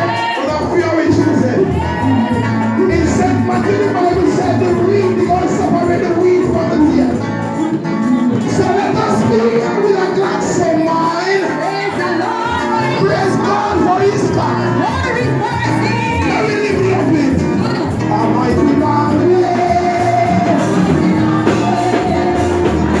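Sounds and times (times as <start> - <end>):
gospel band playing: 0.0 - 23.0
several voices singing: 0.0 - 23.0.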